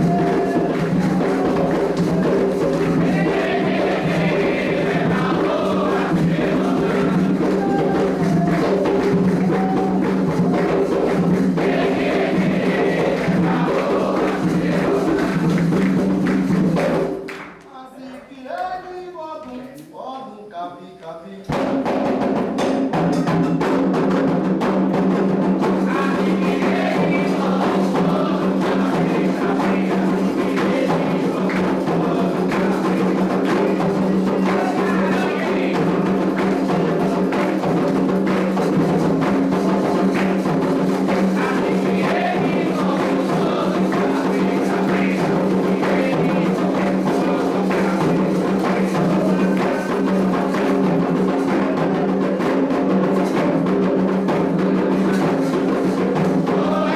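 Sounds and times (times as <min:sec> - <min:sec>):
hand drums beating: 0:00.0 - 0:17.3, 0:21.5 - 0:56.9
voices chanting: 0:00.0 - 0:17.3, 0:25.6 - 0:52.6, 0:54.4 - 0:56.9.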